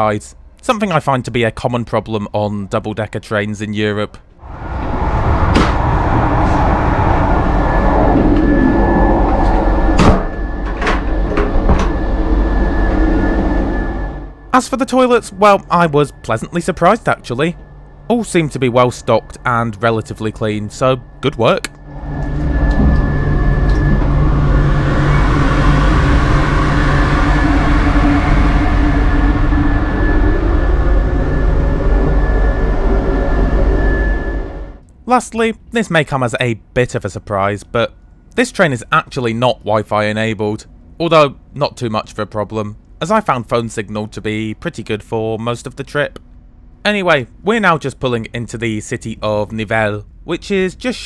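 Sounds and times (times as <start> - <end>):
faint high motor whine: 6.4 - 51.0.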